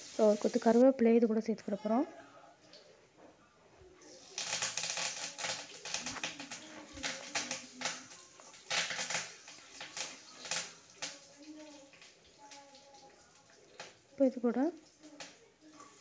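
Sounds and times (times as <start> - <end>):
leaves crackling in hot oil: 0.0 - 1.0, 4.0 - 16.0.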